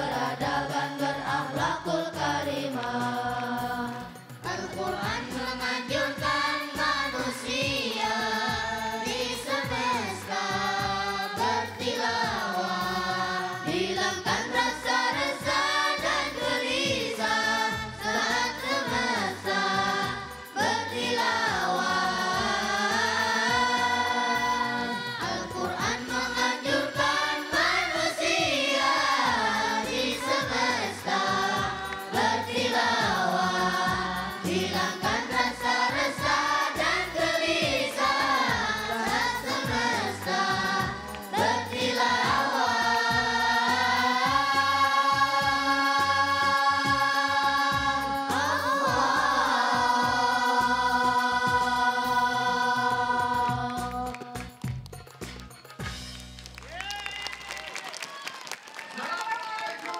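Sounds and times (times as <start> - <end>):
boys' choir singing: 0.0 - 54.6.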